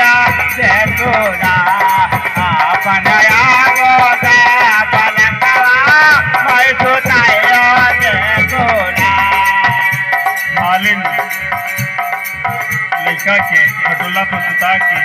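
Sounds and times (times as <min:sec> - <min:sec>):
person singing: 0:00.0 - 0:12.1
drum and hand percussion beat: 0:00.0 - 0:15.0.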